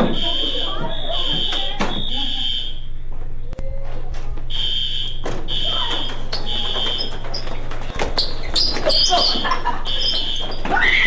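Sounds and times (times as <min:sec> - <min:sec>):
fire alarm pulsing tone: 0:00.0 - 0:03.0, 0:04.5 - 0:11.0
steady low hum: 0:00.0 - 0:11.0.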